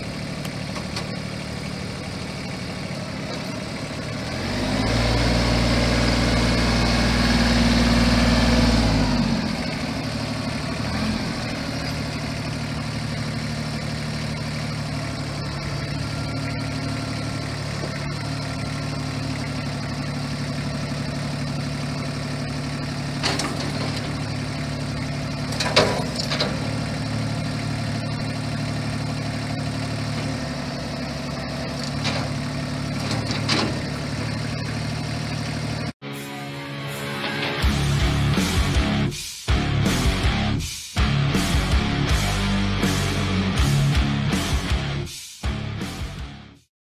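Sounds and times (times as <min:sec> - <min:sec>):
tractor diesel engine running: 0:00.0 - 0:36.0, 0:37.5 - 0:46.6.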